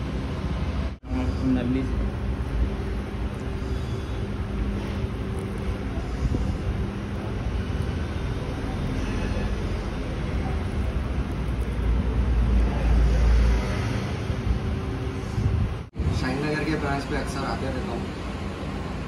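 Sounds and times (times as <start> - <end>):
faint steady hum: 0.0 - 19.0
low rumbling background noise: 0.0 - 19.0.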